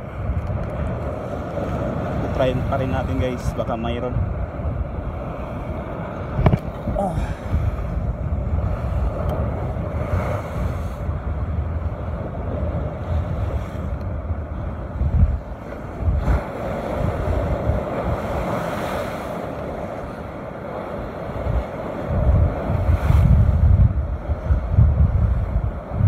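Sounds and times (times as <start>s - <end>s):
surf breaking over rocks: 0.0s - 26.0s
wind gusting on microphone: 0.0s - 26.0s.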